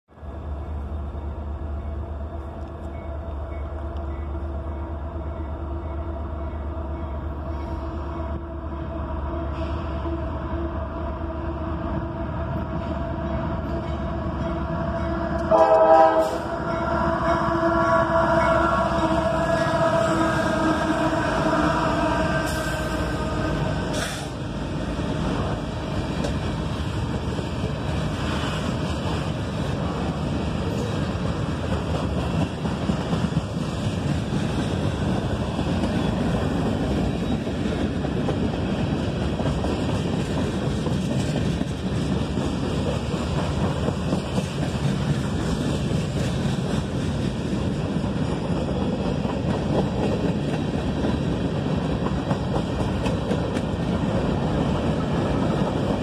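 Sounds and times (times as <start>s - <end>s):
steel wheels rumbling on track: 9.4s - 56.0s.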